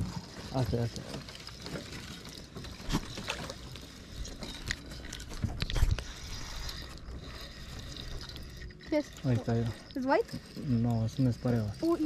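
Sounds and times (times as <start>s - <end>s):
small boat on water: 0.0s - 12.0s.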